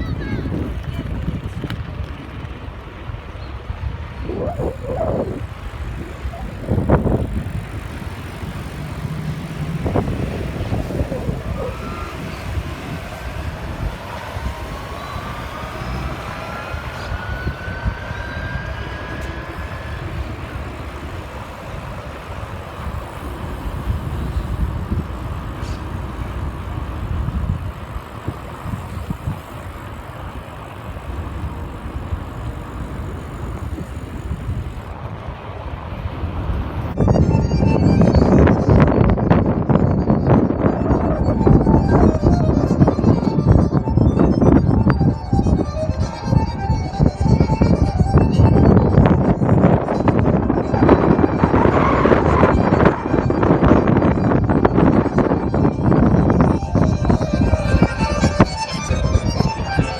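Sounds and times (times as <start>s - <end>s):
city street traffic rumble: 0.0s - 59.9s
passing vehicle whine: 0.0s - 59.9s.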